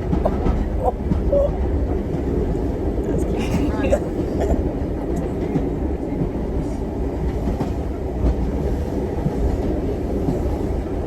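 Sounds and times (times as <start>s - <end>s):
train carriages rumbling on track: 0.0s - 11.0s
train wheels clicking: 0.0s - 11.0s.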